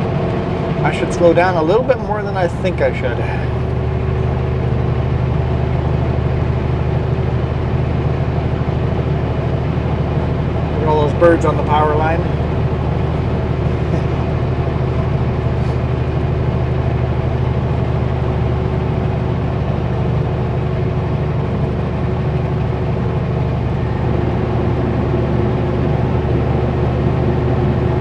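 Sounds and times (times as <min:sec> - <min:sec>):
road noise: 0:00.0 - 0:28.0
truck diesel engine droning: 0:00.0 - 0:28.0.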